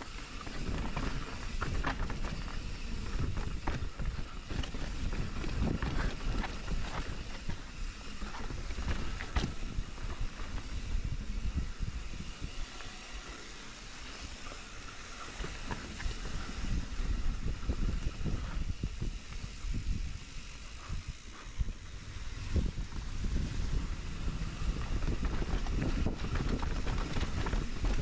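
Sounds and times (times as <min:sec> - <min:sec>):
wind on microphone: 0:00.0 - 0:13.3, 0:15.3 - 0:28.0
bike knocking and rattling: 0:00.0 - 0:28.0
bike tyres on dirt and rocks: 0:00.0 - 0:28.0.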